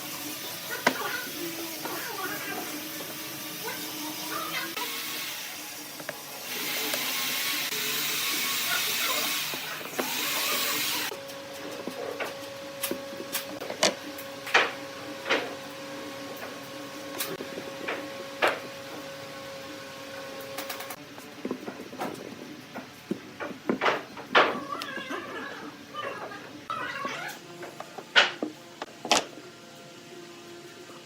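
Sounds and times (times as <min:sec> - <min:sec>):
motor hum: 0:00.0 - 0:31.0.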